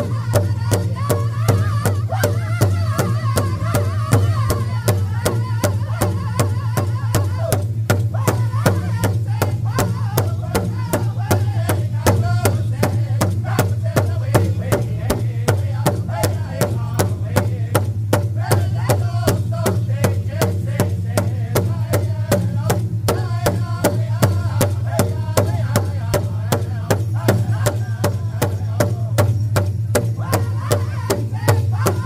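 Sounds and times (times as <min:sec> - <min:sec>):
group singing: 0:00.0 - 0:32.0
large drum struck with sticks: 0:00.0 - 0:32.0.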